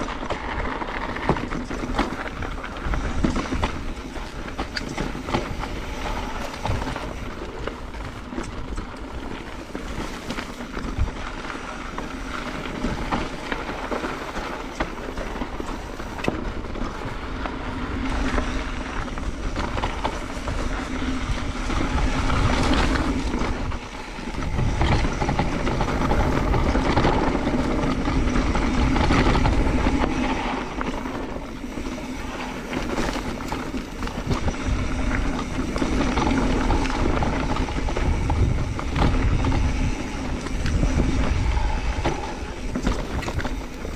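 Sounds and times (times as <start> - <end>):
bike rattling over rocks: 0.0 - 43.9
bike tyre rumble on dirt: 0.0 - 43.9.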